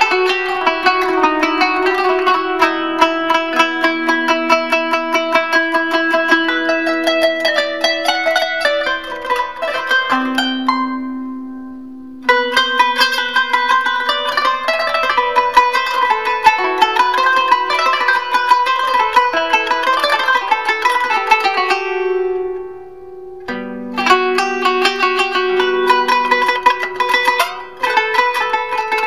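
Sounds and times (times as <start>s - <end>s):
plucked zither improvisation: 0.0s - 29.0s.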